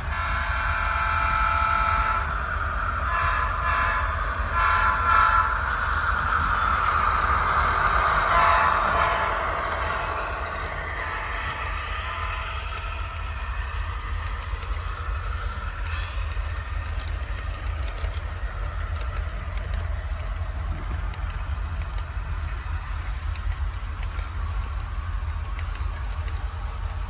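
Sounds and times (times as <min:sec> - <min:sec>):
model train rumbling: 0:00.0 - 0:27.0.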